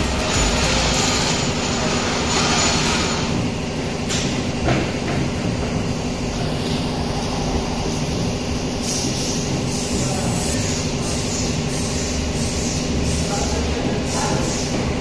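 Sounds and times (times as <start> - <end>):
machinery rumbling and clattering: 0.0 - 15.0.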